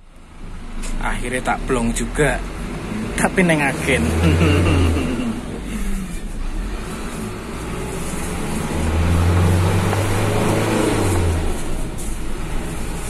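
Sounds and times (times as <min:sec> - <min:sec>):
bus engine pulling away: 0:00.0 - 0:13.0.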